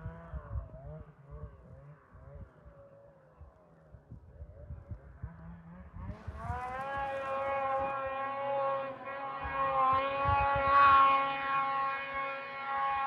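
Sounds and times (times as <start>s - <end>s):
snowmobile engine high whine: 0.0s - 13.0s.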